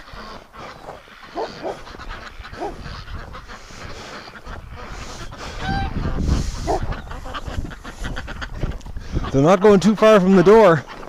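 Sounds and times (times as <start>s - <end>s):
geese honking: 0.0s - 11.0s
wind rumbling on microphone: 0.0s - 11.0s.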